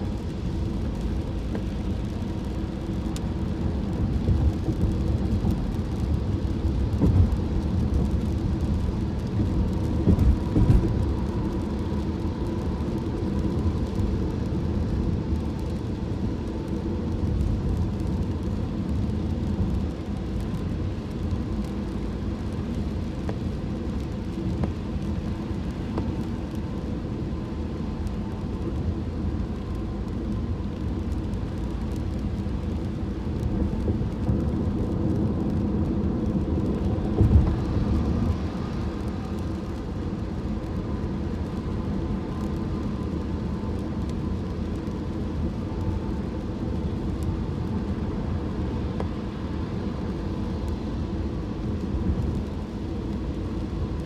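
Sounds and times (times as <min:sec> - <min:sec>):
car engine rumble: 0:00.0 - 0:54.0
car road noise on wet pavement: 0:00.0 - 0:54.0.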